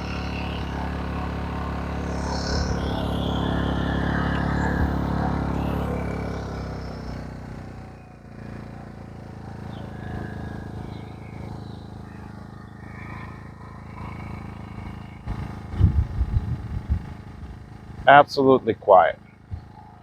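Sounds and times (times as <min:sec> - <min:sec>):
birds chirping faintly: 0:00.0 - 0:17.8
generator engine humming: 0:00.0 - 0:20.0.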